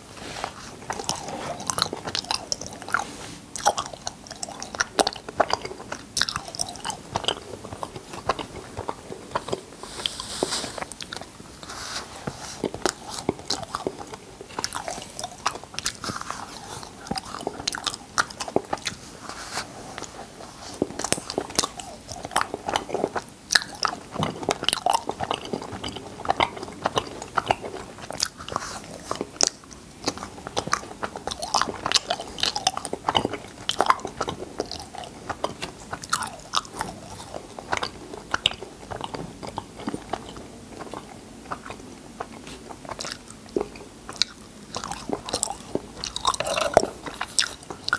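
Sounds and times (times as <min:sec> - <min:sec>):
person chewing and smacking: 0:00.0 - 0:47.9.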